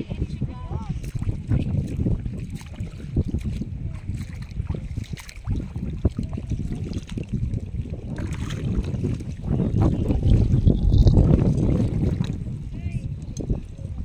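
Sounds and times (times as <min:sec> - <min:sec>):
sea water sloshing: 0:00.0 - 0:14.0
wind rumble on microphone: 0:00.0 - 0:14.0.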